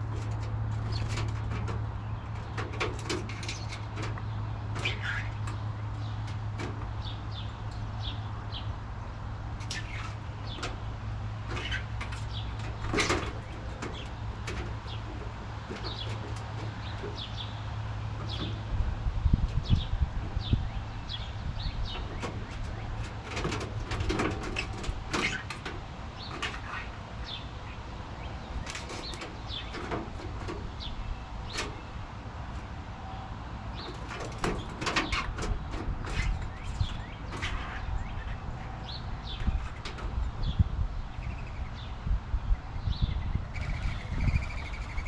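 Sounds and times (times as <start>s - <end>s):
birds chirping: 0.0s - 45.0s
low rumbling bursts: 0.0s - 45.0s.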